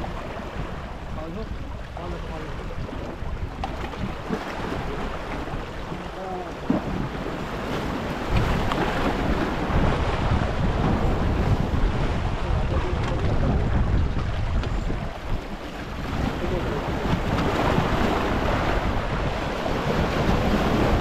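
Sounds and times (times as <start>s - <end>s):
sea waves washing: 0.0s - 21.0s
wind buffeting microphone: 0.0s - 21.0s.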